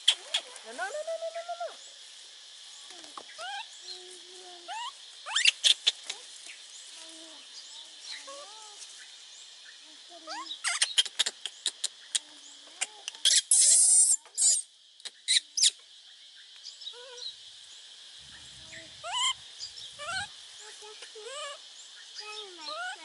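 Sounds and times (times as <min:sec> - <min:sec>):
baby monkeys cooing and squeaking: 0:00.0 - 0:01.5, 0:02.9 - 0:09.1, 0:09.7 - 0:15.8, 0:16.9 - 0:17.4, 0:18.3 - 0:23.0.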